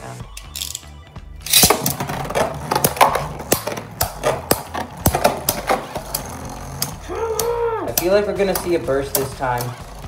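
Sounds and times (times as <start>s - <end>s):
spinning tops clashing: 0.4s - 10.0s.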